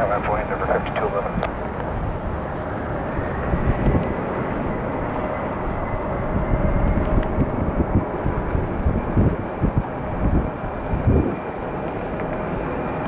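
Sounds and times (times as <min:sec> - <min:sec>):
jet engines whining: 0:00.0 - 0:13.0
wind rumbling on microphone: 0:00.0 - 0:13.0.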